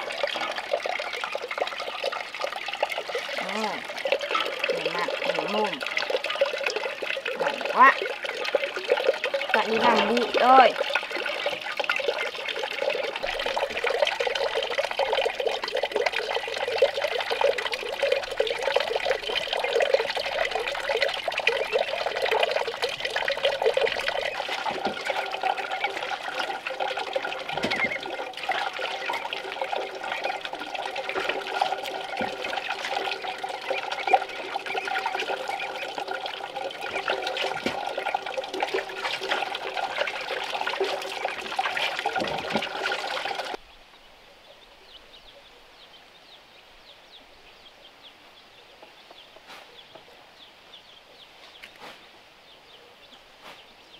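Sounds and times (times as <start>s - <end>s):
running water splashing: 0.0s - 43.6s.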